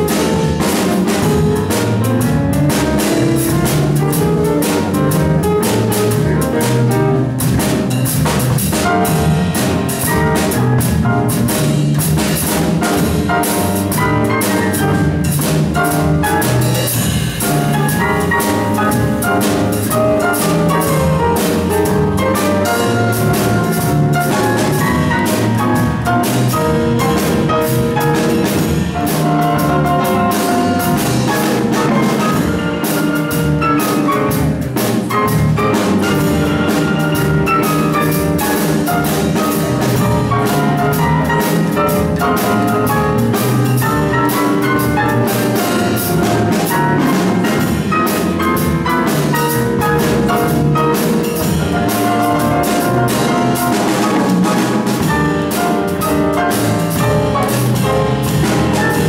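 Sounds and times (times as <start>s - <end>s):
drum kit: 0.0s - 59.0s
grand piano: 0.0s - 59.0s
upright double bass: 0.0s - 59.0s.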